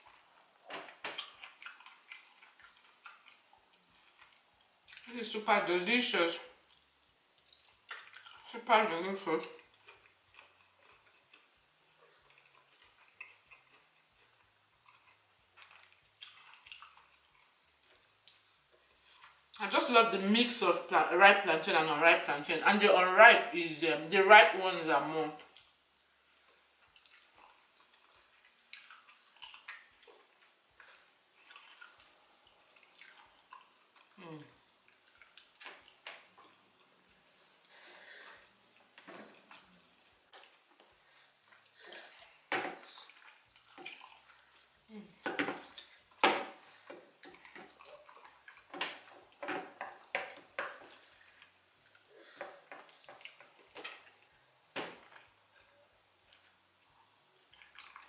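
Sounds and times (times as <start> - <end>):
person chewing wetly: 0.0 - 5.1, 6.6 - 8.6, 9.4 - 19.6, 25.5 - 58.0.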